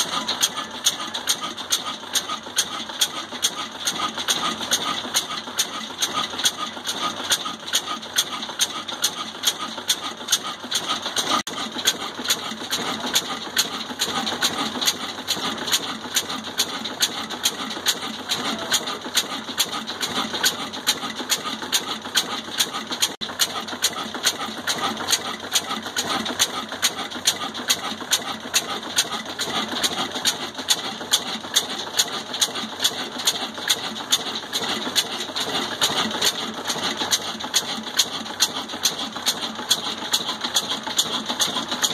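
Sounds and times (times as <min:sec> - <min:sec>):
stationary diesel engine running: 0:00.0 - 0:41.9.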